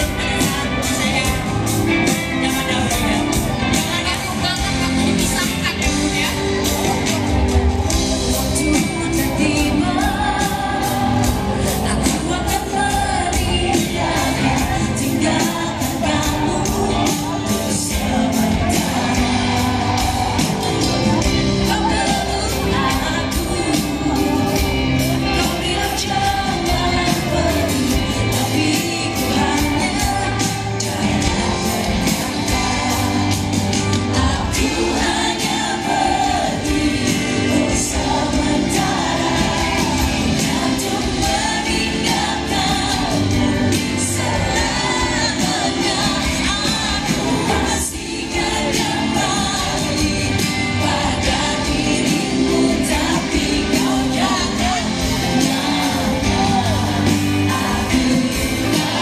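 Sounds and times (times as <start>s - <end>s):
live pop band playing: 0.0s - 59.0s
woman singing lead vocals: 0.0s - 59.0s.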